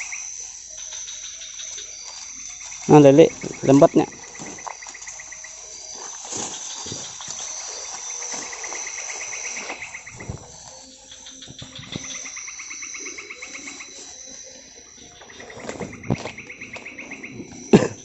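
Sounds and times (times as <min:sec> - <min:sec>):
insect pulsing trill: 0:00.0 - 0:18.0
steady high-pitched buzz: 0:00.0 - 0:18.0.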